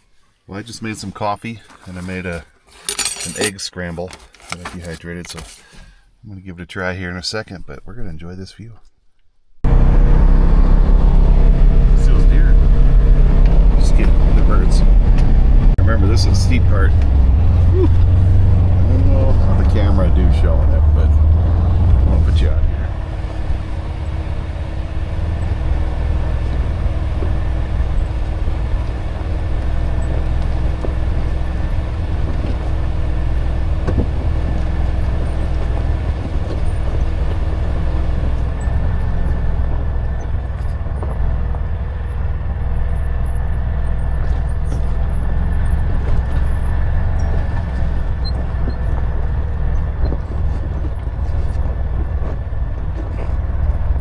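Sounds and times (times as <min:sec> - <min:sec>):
vehicle engine deep rumble: 0:09.6 - 0:54.0.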